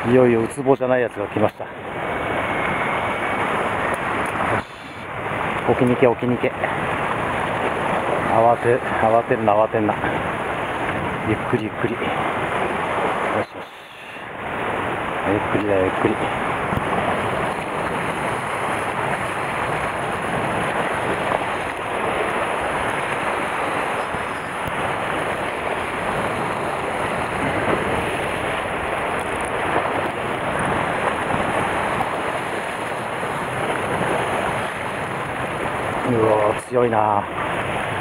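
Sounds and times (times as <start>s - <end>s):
sea surf on rocky shore: 0.0s - 38.0s
wind on microphone: 1.5s - 38.0s.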